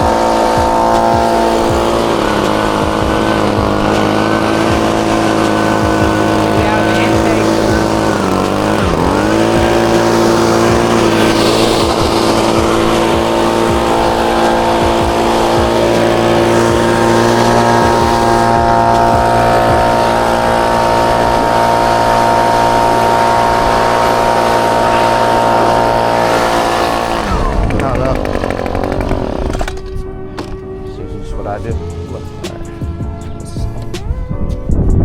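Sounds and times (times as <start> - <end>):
blower running: 0.0 - 34.8.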